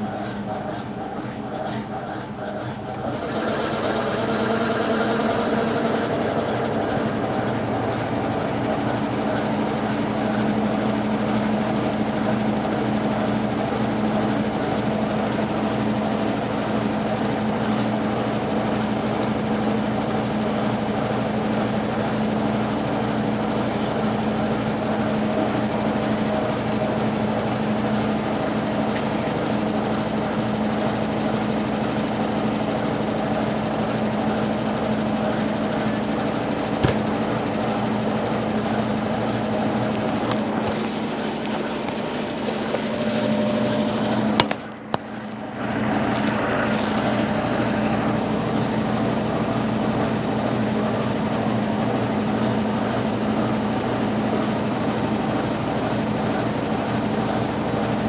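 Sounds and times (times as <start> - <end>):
churning of washing load: 0.0 - 58.0
washing machine motor hum: 0.0 - 58.0.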